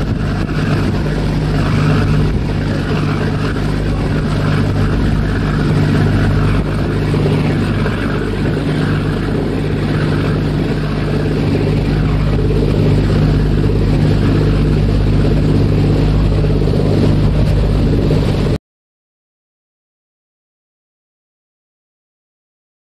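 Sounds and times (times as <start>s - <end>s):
constant rushing noise: 0.0s - 18.6s
ferry engines droning: 0.0s - 18.6s.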